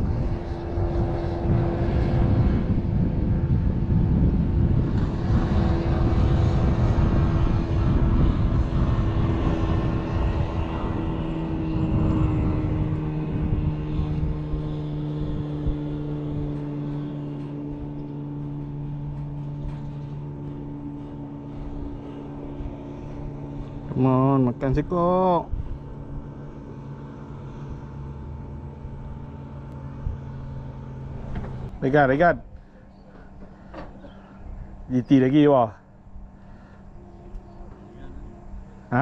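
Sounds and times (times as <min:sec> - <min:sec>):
low rumble: 0:00.0 - 0:39.0
motor engine droning: 0:00.0 - 0:39.0.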